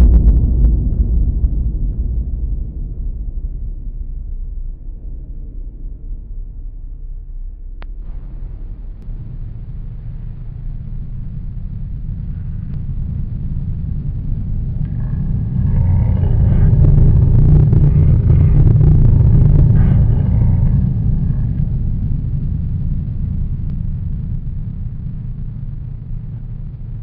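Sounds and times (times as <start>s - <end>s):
deep rumbling drone: 0.0s - 27.0s.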